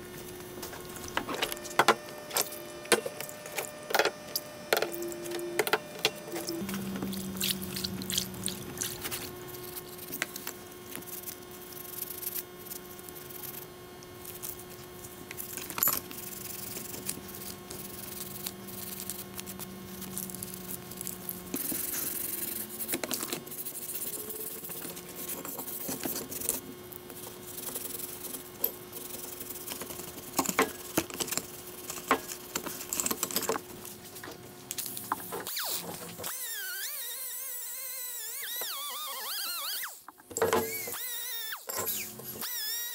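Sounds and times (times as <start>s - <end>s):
steady hum: 0.0s - 36.3s.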